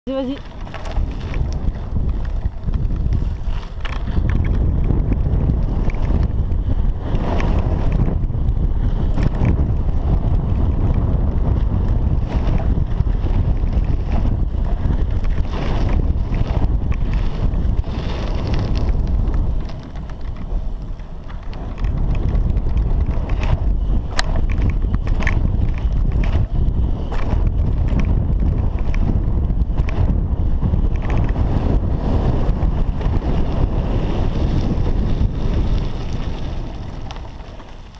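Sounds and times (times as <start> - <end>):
wind on microphone: 0.0 - 37.9
bike tyres rumbling: 0.1 - 37.9.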